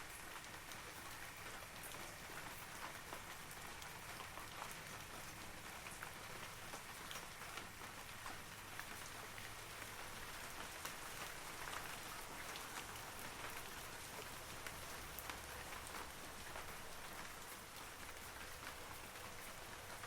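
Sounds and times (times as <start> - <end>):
rain falling on trees: 0.0 - 20.0.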